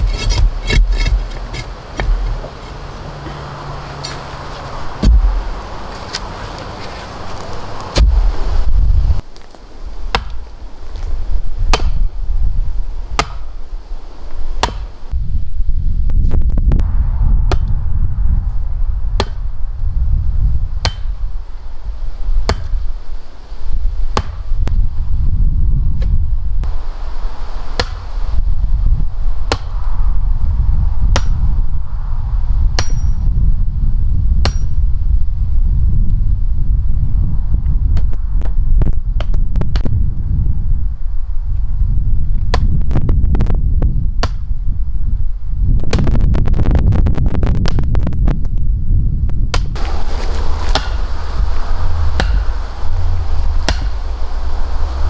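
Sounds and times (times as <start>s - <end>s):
low rumble: 0.0s - 9.2s, 15.1s - 22.5s, 24.6s - 55.0s.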